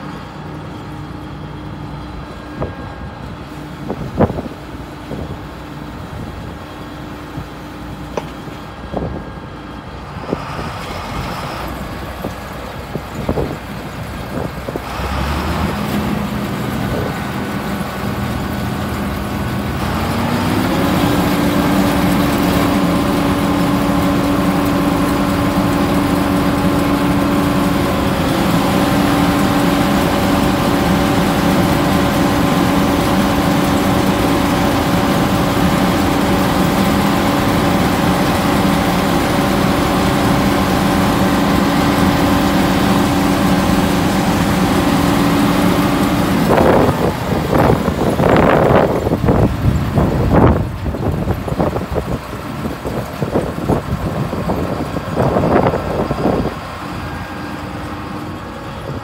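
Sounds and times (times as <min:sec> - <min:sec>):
diesel combine engine revving: 0:00.0 - 0:59.0.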